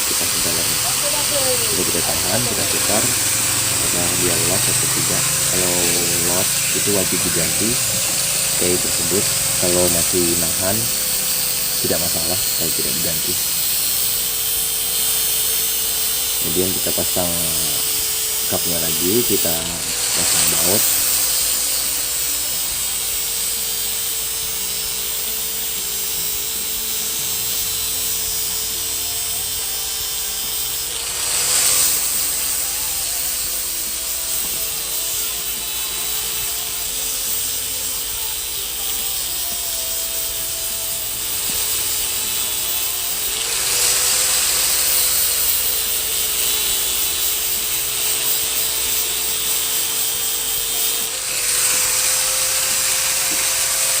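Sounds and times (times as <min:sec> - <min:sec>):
power tool motor running: 0:00.0 - 0:54.0.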